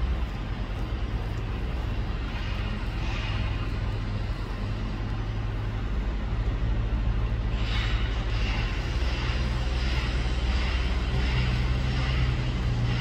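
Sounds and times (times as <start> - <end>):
heavy engines rumbling: 0.0 - 13.0
rushing noise: 0.0 - 13.0.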